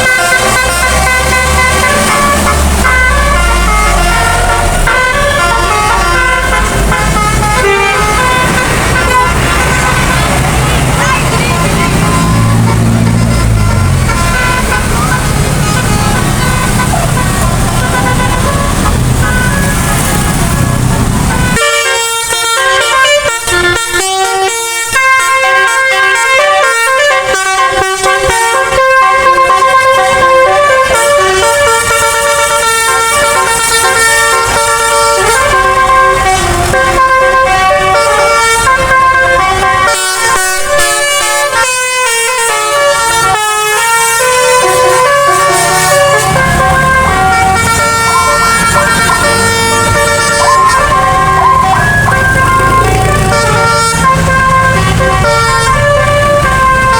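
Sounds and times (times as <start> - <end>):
bus engine running: 0.0 - 56.9
musical air horn tune: 0.0 - 56.9
road noise: 0.0 - 56.9.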